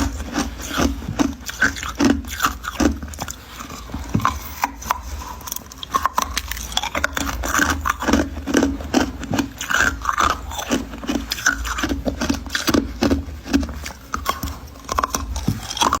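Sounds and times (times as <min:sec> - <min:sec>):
ice crunching while chewed: 0:00.0 - 0:16.0.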